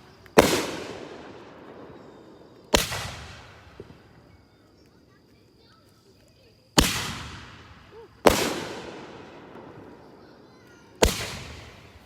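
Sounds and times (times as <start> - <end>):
firework bursts with echo: 0.0 - 4.4, 6.7 - 12.0.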